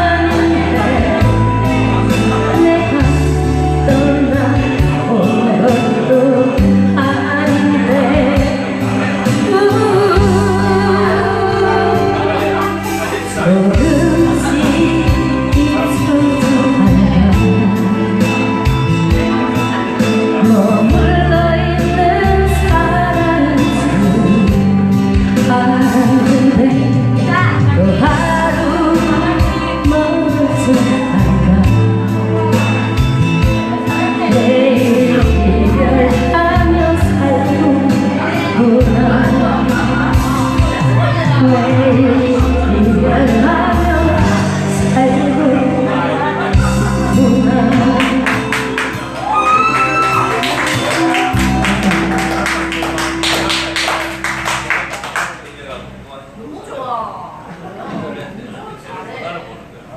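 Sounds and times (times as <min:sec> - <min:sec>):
person singing: 0:00.0 - 0:32.9, 0:33.5 - 0:53.7
bass line: 0:00.0 - 0:56.1.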